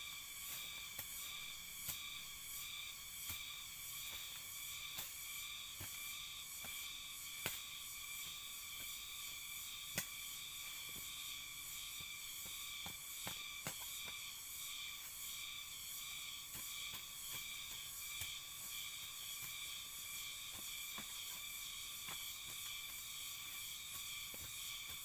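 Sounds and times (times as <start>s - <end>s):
hand hoe chopping soil: 0.0s - 14.3s, 16.4s - 25.0s
high insect drone: 0.0s - 25.0s.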